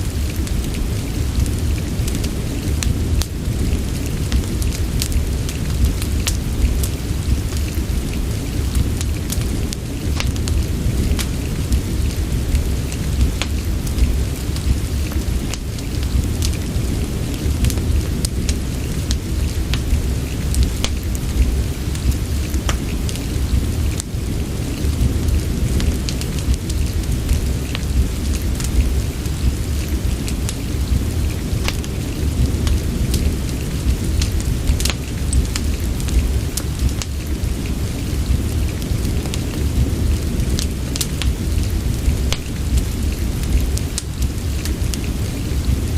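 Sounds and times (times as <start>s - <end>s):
fireplace crackling: 0.0s - 45.9s
steady rain: 0.0s - 45.9s.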